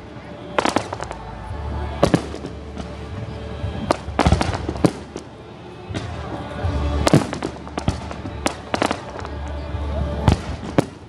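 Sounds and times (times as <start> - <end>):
fireworks bursting: 0.0 - 11.0
music playing: 0.0 - 11.0.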